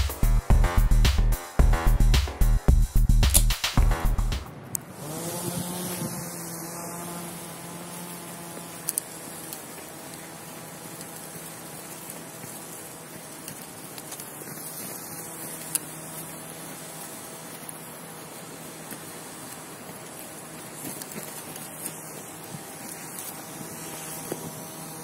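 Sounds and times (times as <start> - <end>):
propeller motor buzzing hum: 0.0 - 25.0.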